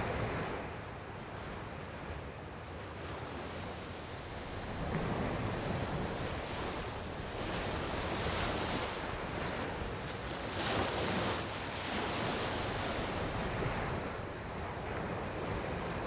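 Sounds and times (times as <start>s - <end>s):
small waves breaking on shore: 0.0s - 16.0s.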